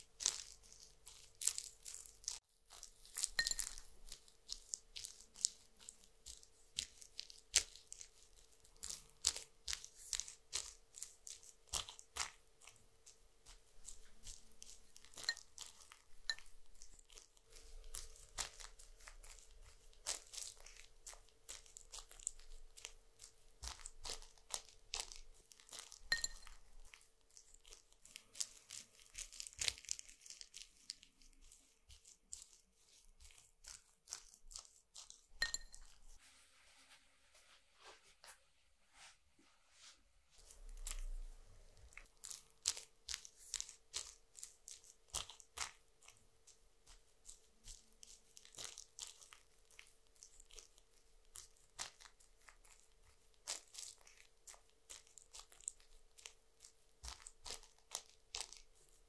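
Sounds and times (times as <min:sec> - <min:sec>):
brush spreading sticky gel: 0:00.0 - 0:38.4, 0:39.0 - 0:59.0.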